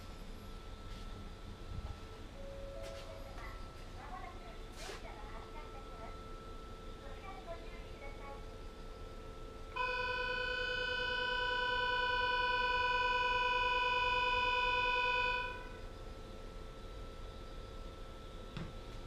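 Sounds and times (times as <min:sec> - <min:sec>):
train departure buzzer: 0:00.0 - 0:03.8, 0:05.5 - 0:18.5.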